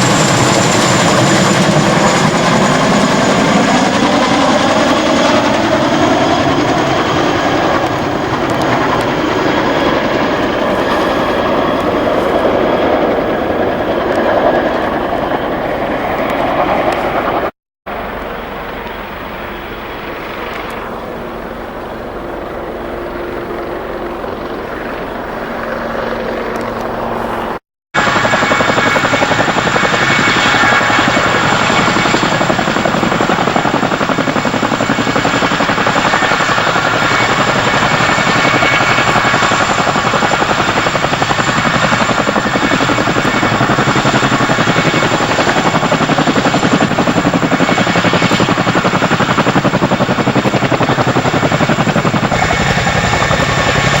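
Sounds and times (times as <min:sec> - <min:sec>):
helicopter rotor chop: 0:00.0 - 0:54.0
turbine whine: 0:00.0 - 0:54.0.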